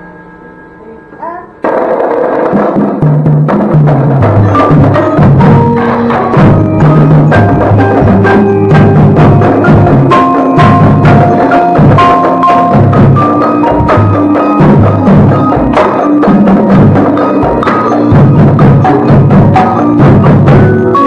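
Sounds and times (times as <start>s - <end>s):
marimba notes and chords: 3.0s - 21.0s.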